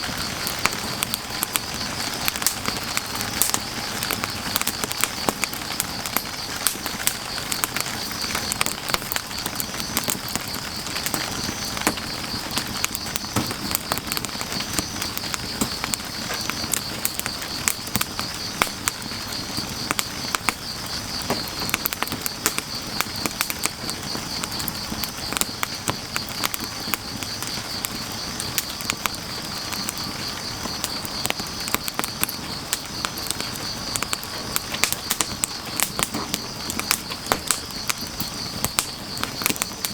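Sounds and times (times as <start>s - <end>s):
firewood fire crackling and popping: 0.0s - 39.9s
insects chirring: 0.0s - 39.9s
rain hissing: 0.0s - 39.9s.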